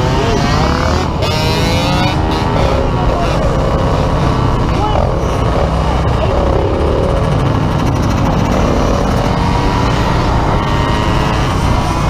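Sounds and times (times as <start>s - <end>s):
engines revving: 0.0s - 12.0s
wind rumble on microphone: 0.0s - 12.0s.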